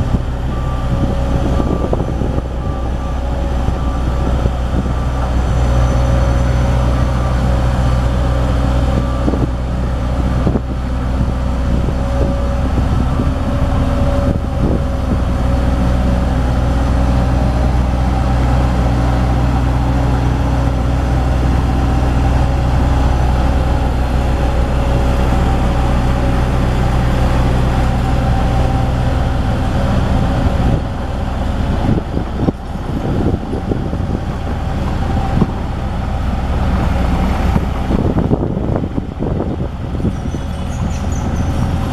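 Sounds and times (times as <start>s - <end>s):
diesel compactor engine running: 0.0s - 41.9s.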